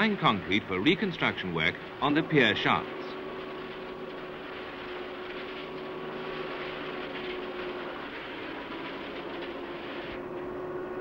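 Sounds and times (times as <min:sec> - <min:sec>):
concrete pump humming: 0:00.0 - 0:11.0.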